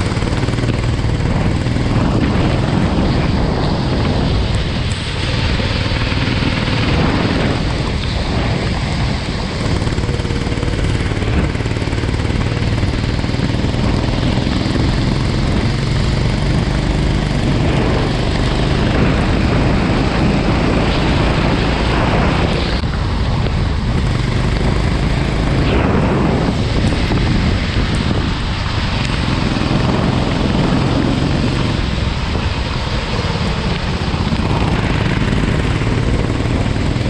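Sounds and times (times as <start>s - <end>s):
go-kart engine revving: 0.0s - 37.0s
wind and rain hiss: 0.0s - 37.0s.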